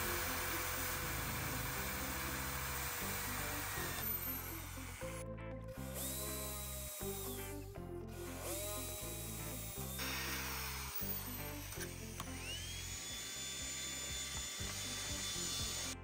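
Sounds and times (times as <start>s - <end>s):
power drill boring holes: 0.0s - 5.2s, 5.8s - 16.0s
background music: 0.0s - 16.0s.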